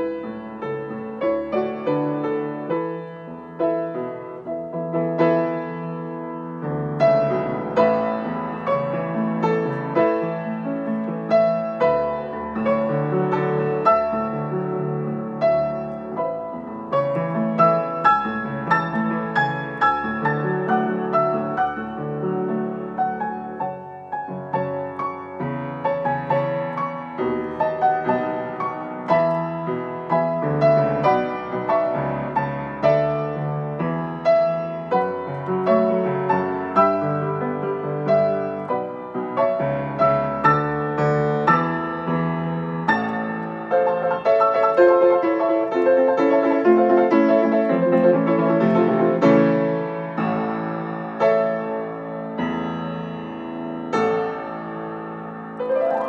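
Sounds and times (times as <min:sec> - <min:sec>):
solo piano playing: 0:00.0 - 0:56.0.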